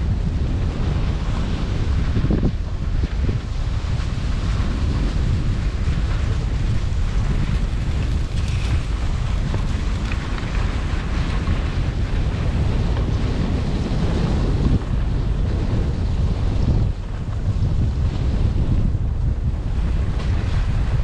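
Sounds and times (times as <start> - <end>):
wind buffeting microphone: 0.0 - 21.0
skis scraping packed snow: 0.3 - 21.0.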